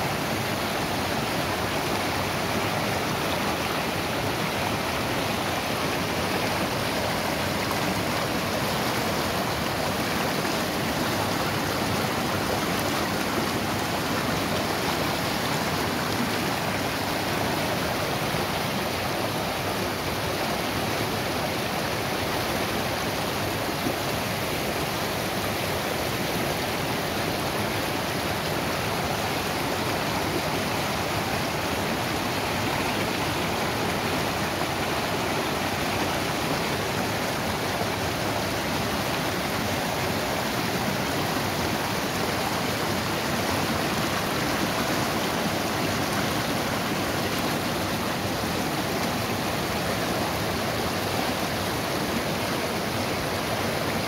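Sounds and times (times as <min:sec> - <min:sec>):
mountain stream rushing over boulders: 0:00.0 - 0:54.0.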